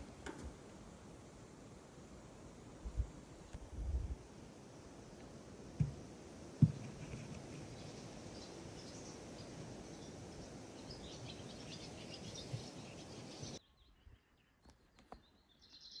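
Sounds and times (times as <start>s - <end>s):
steady hiss: 0.0s - 13.6s.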